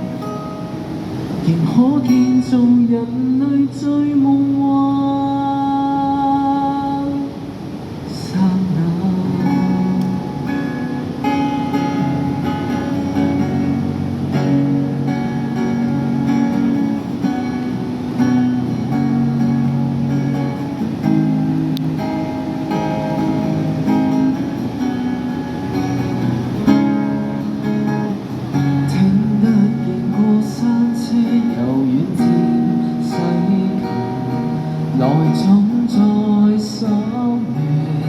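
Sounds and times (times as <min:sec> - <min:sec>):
guitar strumming chords: 0:00.0 - 0:38.0.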